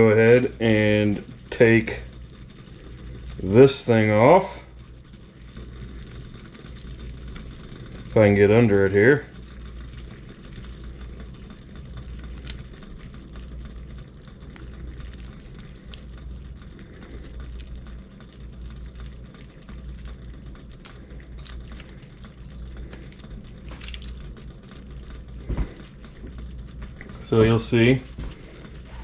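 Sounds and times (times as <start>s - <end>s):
low steady hum: 0.0s - 29.0s
water boiling and bubbling: 0.0s - 29.0s.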